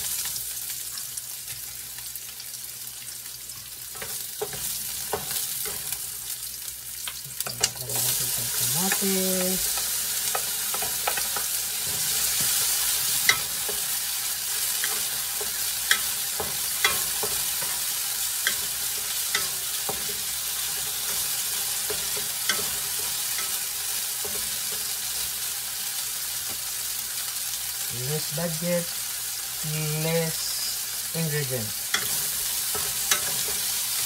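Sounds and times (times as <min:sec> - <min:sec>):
onions and tomatoes sizzling in oil: 0:00.0 - 0:34.0.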